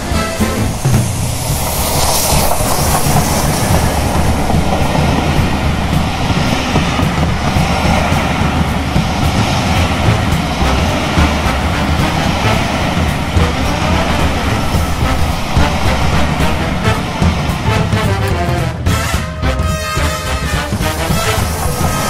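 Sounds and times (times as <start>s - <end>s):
train rolling past: 0.0s - 22.0s.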